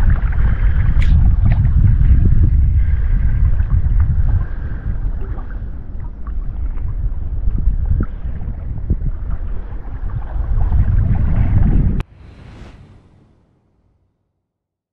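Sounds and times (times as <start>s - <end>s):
wind buffeting microphone: 0.0s - 12.1s
water splashing and sloshing: 0.0s - 13.2s.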